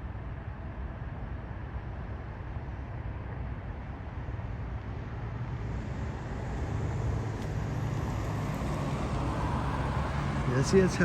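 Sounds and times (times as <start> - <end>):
car engine and road noise: 1.2 - 11.0.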